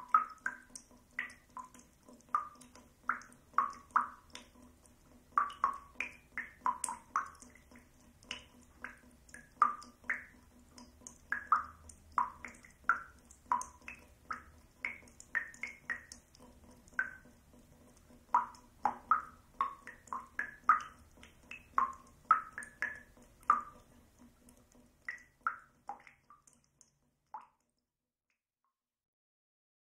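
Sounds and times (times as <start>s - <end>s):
water dripping from a faucet: 0.0s - 28.4s.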